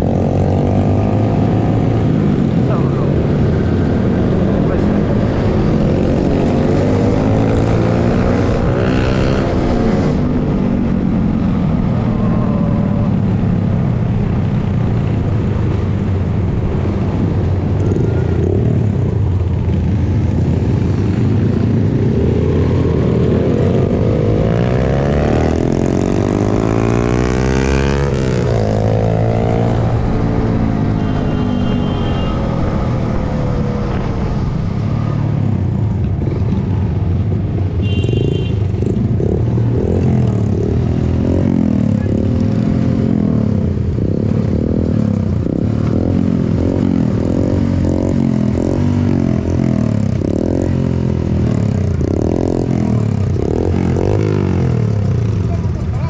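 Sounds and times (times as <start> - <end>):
motorcycle engine revving: 0.0 - 15.4, 17.4 - 56.0.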